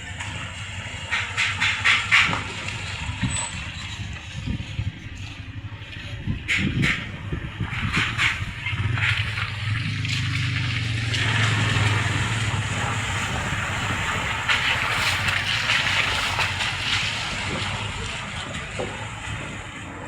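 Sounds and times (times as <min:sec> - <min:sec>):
vehicle engine humming: 0:00.0 - 0:20.0
water rushing under wheels: 0:00.0 - 0:20.0.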